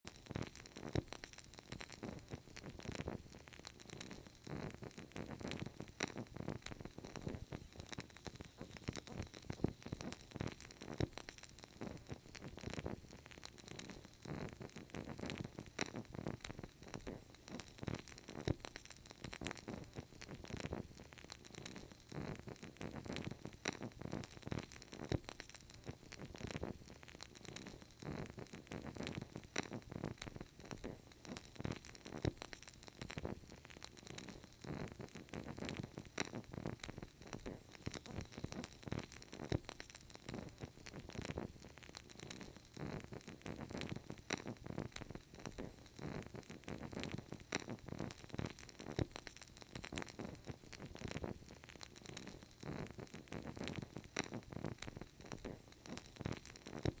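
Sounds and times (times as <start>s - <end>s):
candle crackling: 0.1s - 57.0s.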